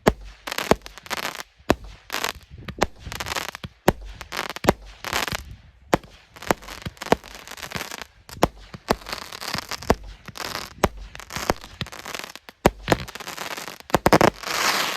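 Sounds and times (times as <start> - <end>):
firework crackling: 0.0 - 14.9
firework shells bursting: 0.0 - 14.9.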